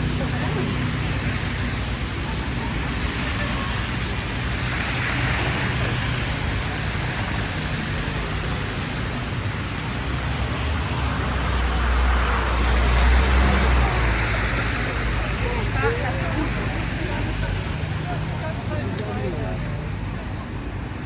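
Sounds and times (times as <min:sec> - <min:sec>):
heavy vehicle engine rumble: 0:00.0 - 0:21.0
street traffic passing: 0:00.0 - 0:21.0.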